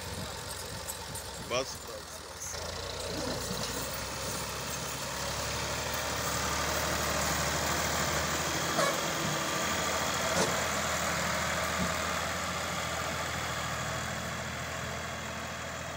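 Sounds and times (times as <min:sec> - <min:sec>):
diesel tractor engine idling: 0:00.0 - 0:15.9.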